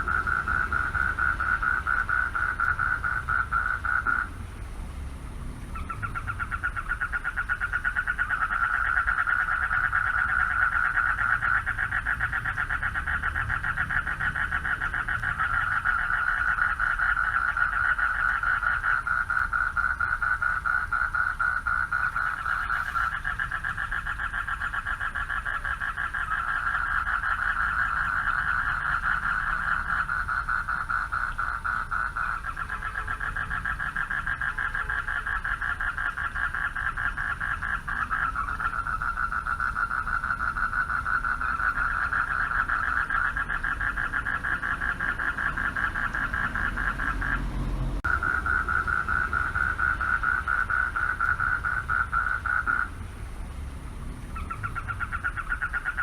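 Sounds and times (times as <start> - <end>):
frogs trilling: 0.0 - 4.7, 5.4 - 56.0.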